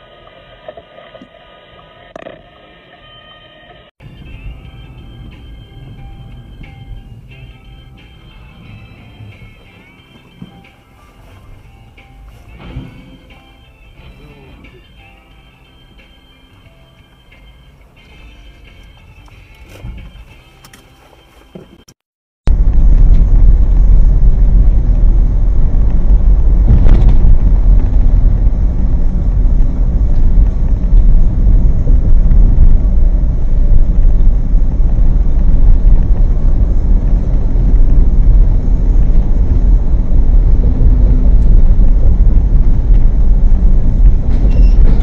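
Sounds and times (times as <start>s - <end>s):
car driving on highway: 4.0s - 21.1s, 22.5s - 45.0s.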